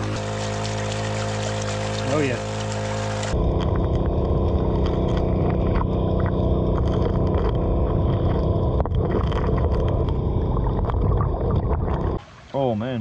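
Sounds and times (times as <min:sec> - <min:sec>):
gravel clicking and rattling: 0:00.0 - 0:12.2
engine and pump heard underwater: 0:00.0 - 0:12.5.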